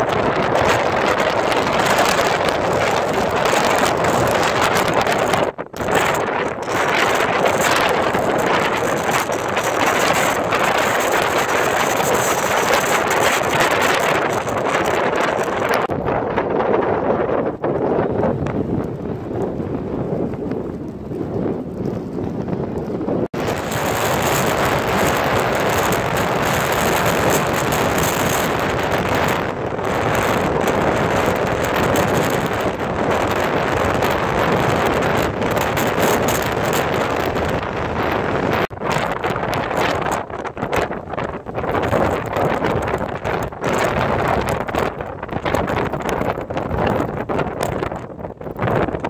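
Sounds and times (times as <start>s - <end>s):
storm wind buffeting microphone: 0.0s - 49.0s.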